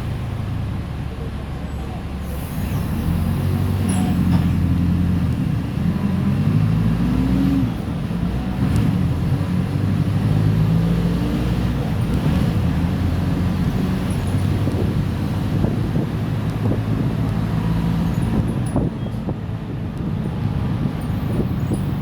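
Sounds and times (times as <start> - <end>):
bus diesel engine accelerating: 0.0 - 22.0.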